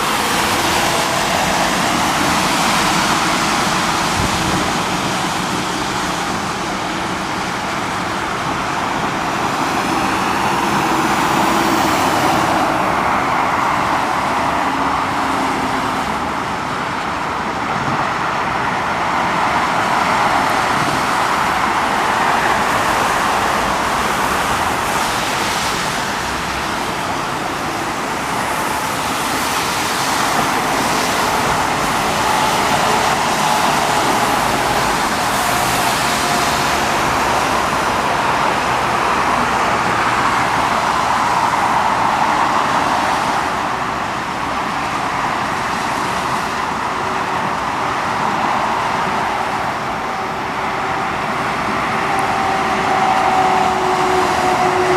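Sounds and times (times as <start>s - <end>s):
steady rushing noise: 0.0s - 54.9s.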